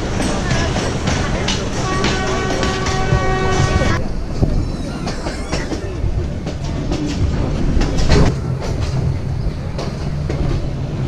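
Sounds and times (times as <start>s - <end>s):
train carriage rumbling: 0.0s - 11.0s
wheels clacking over rails: 0.0s - 11.0s.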